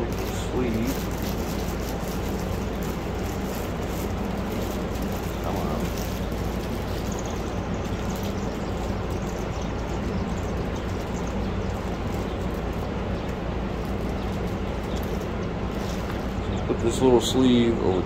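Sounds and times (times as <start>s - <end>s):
plastic bag crinkling: 0.0s - 16.5s
rushing background noise: 0.0s - 18.0s.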